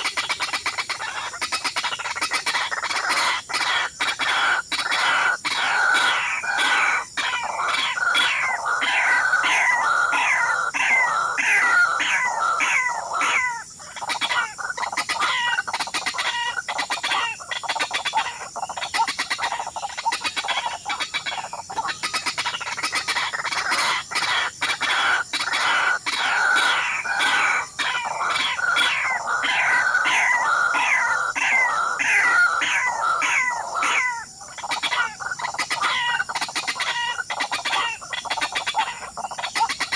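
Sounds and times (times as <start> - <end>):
fowl clucking and cackling: 0.0 - 39.9.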